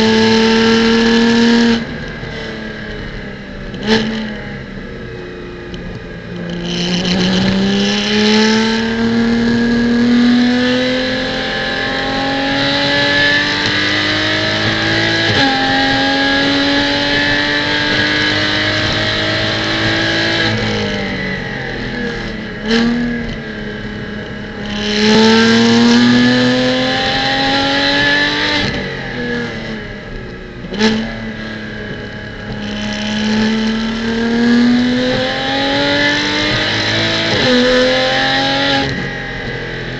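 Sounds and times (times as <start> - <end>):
race car engine accelerating: 5.9 - 39.9.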